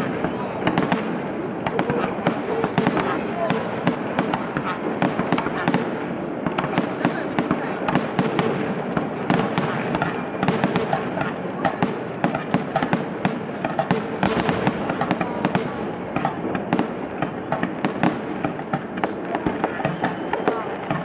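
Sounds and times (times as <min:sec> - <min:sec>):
fireworks popping and crackling: 0:00.0 - 0:21.0.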